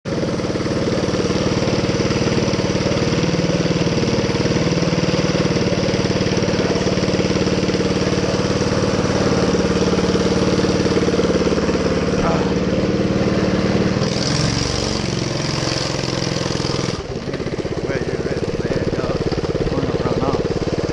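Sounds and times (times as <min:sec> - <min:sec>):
small engine running: 0:00.0 - 0:20.9.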